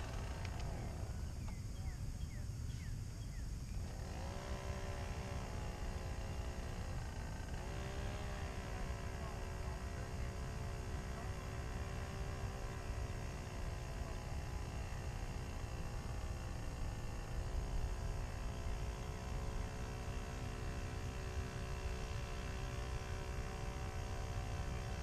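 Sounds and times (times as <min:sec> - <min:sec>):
motorboat engine: 0:00.0 - 0:02.4, 0:03.7 - 0:25.0.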